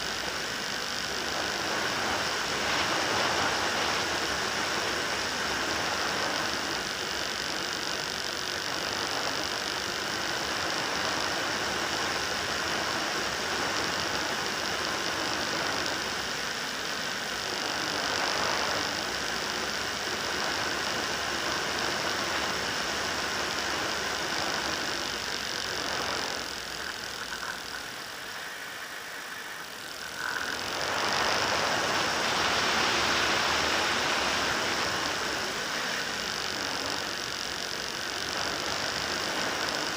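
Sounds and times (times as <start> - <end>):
model aircraft motor and propeller: 0.0 - 39.9.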